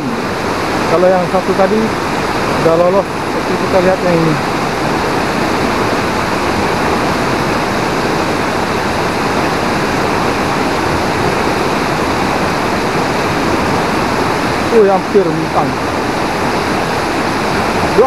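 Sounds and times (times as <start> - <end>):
river rapids rushing over rocks: 0.0 - 18.0.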